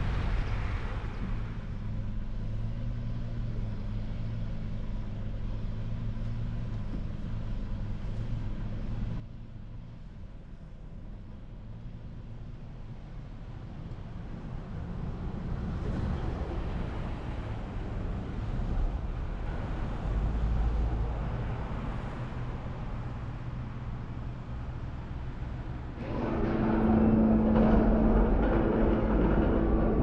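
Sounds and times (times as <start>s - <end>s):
motor vehicle rumble: 0.0s - 30.0s.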